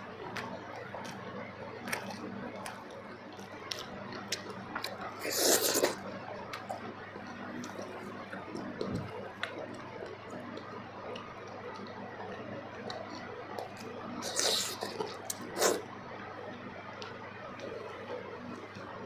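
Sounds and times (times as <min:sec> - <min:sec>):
wet squishy eating sounds: 0:00.0 - 0:15.9.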